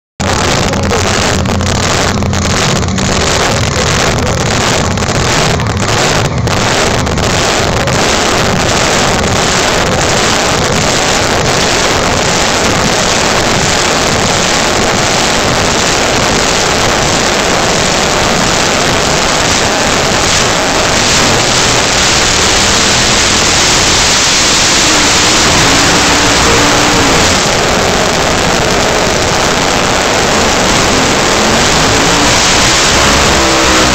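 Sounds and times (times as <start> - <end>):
drag race engines idling: 0.2 - 33.9
engine at high revs: 0.2 - 33.9.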